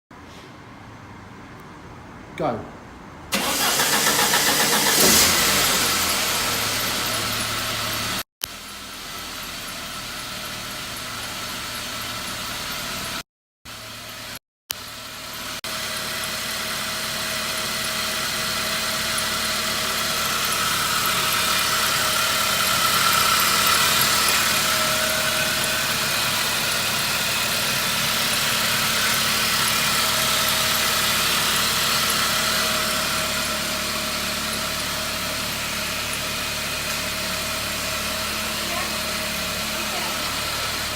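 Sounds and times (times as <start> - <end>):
car engine idling: 3.3 - 40.9.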